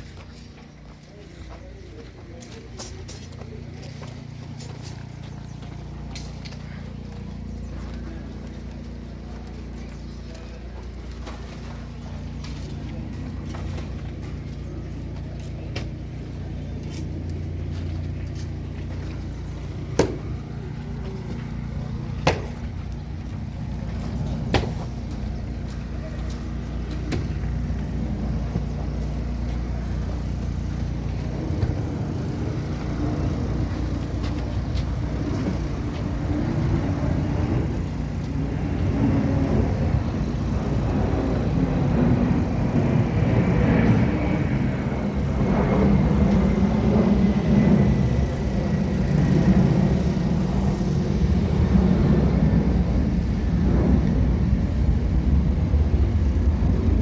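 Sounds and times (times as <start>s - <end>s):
engine rumbling: 0.0s - 57.0s.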